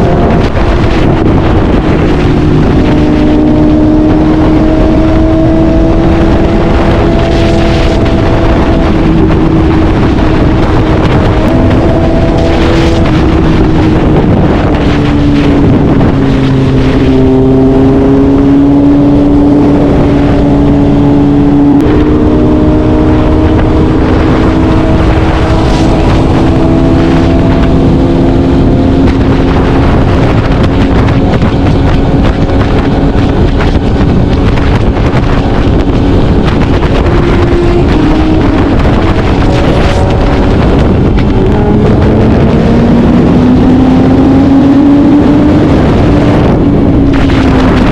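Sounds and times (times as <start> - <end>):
motorcycle engine at speed: 0.0 - 47.9
wind rush on microphone: 0.0 - 47.9.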